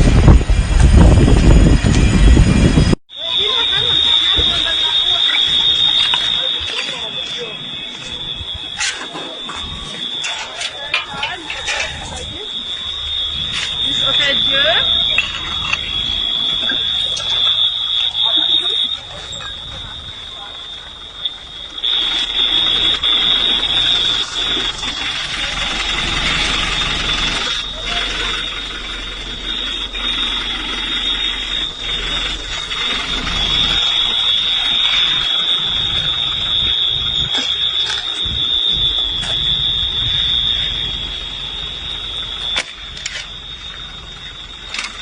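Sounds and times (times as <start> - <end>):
high-pitched alarm tone: 0.0 - 45.0.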